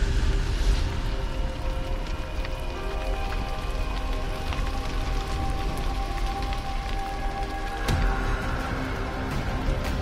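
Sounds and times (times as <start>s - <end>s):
background music: 0.0s - 10.0s
fire crackling: 0.0s - 10.0s.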